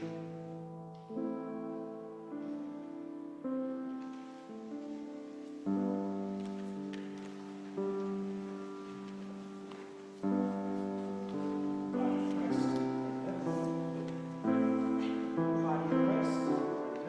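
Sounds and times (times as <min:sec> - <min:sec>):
slow keyboard music: 0:00.0 - 0:17.0.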